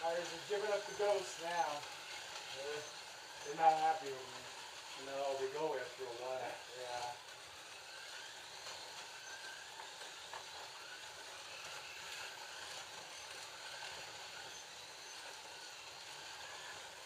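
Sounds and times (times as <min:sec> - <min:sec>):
slot car motors whining: 0:00.0 - 0:17.0.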